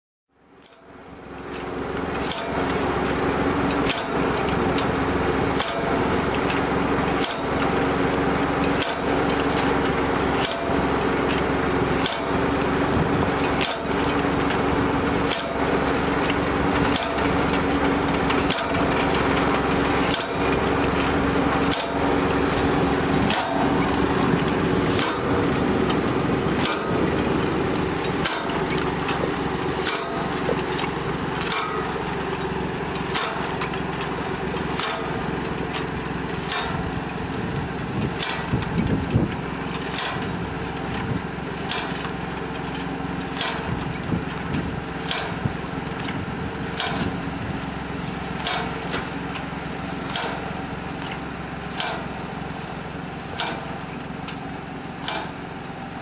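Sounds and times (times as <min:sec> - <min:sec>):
tractor engine running: 0:00.4 - 0:56.0
planting mechanism clacking: 0:00.5 - 0:56.0.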